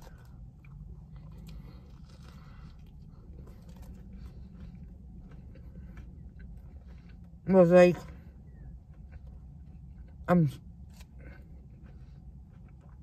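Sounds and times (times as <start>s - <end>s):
low steady car hum: 0.0s - 13.0s
person chewing food: 0.0s - 13.0s.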